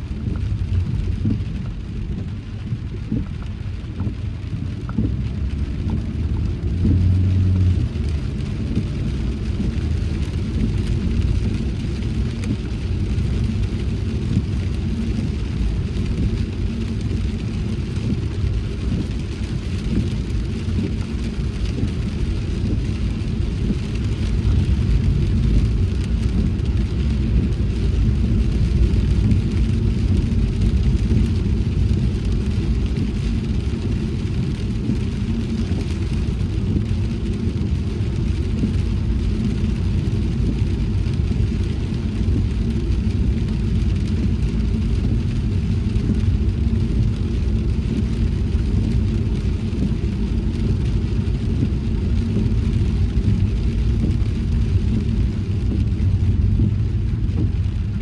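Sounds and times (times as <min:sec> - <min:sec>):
car driving on wet road: 0:00.0 - 0:58.0.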